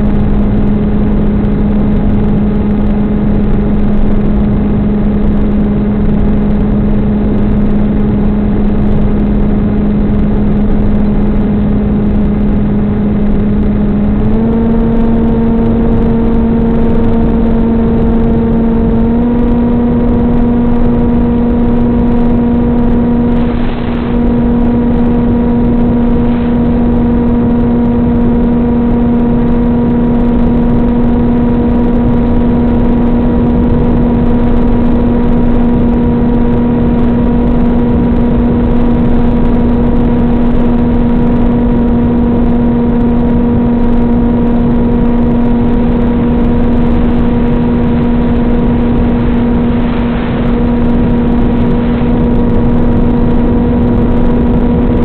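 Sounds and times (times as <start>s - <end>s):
electric motor whine: 0.0s - 55.0s
rushing wind: 0.0s - 55.0s.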